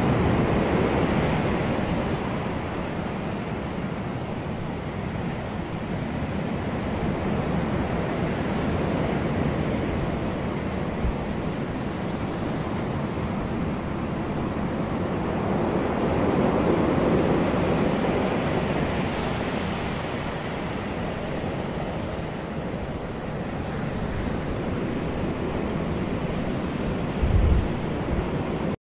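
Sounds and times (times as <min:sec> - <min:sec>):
waves breaking on beach: 0:00.0 - 0:28.8.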